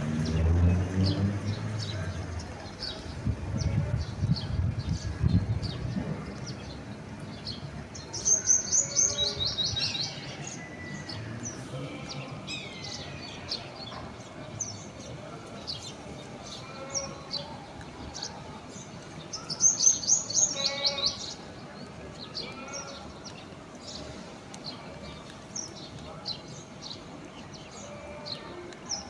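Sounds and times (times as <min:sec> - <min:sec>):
birds chirping and singing: 0:00.0 - 0:29.0.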